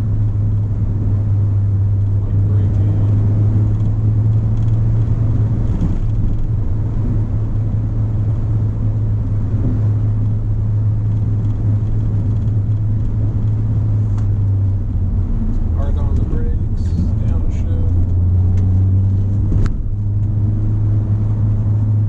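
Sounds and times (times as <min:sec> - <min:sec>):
car engine drone: 0:00.0 - 0:22.0
road and tyre rumble: 0:00.0 - 0:22.0.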